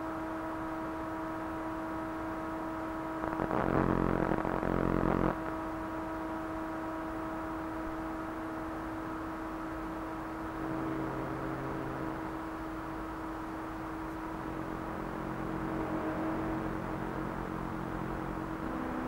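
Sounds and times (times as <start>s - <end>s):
electronic drone of held tones: 0.0s - 19.0s.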